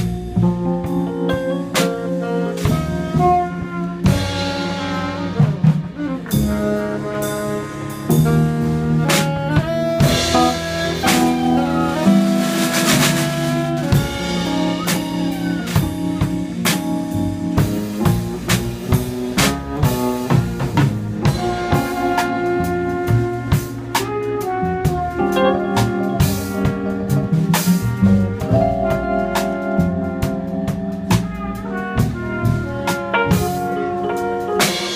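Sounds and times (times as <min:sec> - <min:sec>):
drum kit and cymbals: 0:00.0 - 0:34.9
trumpet and saxophone melody: 0:00.0 - 0:34.9.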